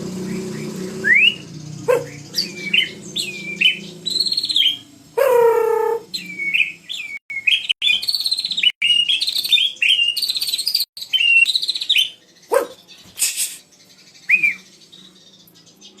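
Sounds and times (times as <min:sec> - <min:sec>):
bird singing whistled notes: 0:00.1 - 0:16.0.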